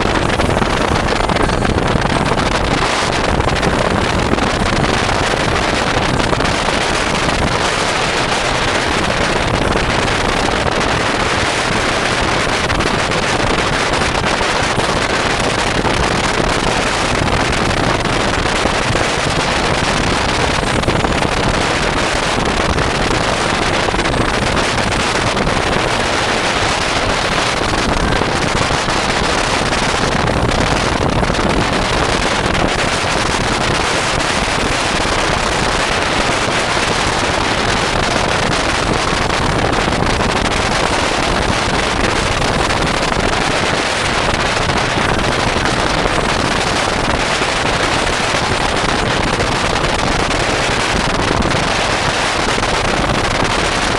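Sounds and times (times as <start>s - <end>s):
boat engine and water rushing: 0.0s - 53.9s
wind buffeting microphone: 0.0s - 53.9s.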